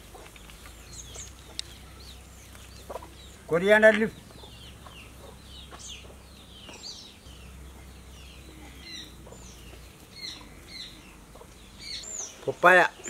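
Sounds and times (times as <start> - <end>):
faint rural outdoor ambience: 0.0 - 13.0
small birds chirping: 0.0 - 13.0.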